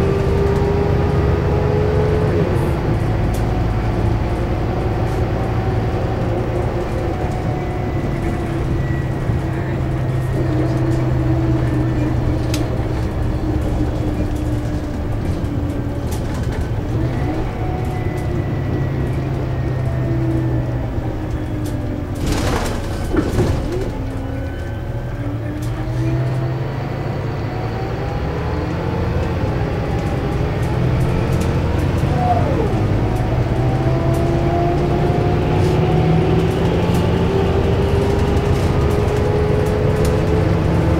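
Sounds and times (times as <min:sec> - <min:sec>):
bus engine drone: 0:00.0 - 0:40.9.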